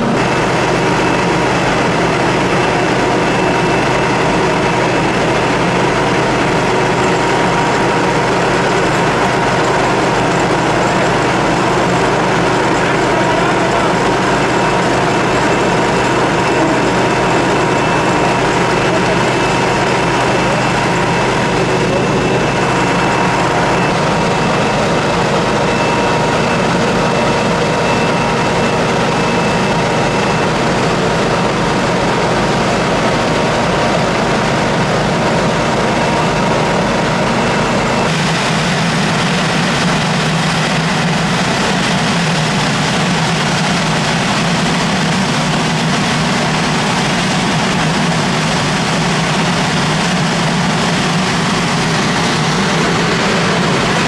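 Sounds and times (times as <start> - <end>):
engines and machinery running: 0.0 - 54.0
low heavy engine hum: 0.0 - 54.0
thin steady whine: 0.0 - 54.0.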